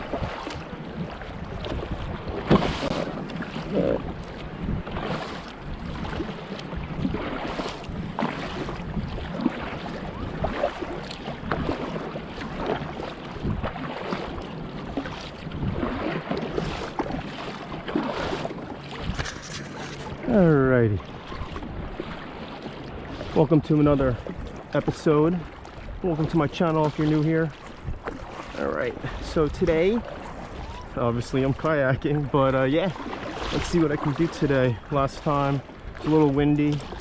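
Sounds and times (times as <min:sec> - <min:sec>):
water lapping and splashing: 0:00.0 - 0:37.0
wind on microphone: 0:00.0 - 0:37.0.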